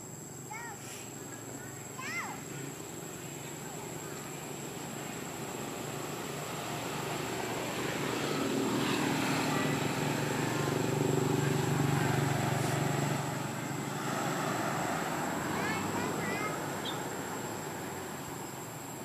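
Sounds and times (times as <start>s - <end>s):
passing vehicle engine hum: 0.0s - 19.0s.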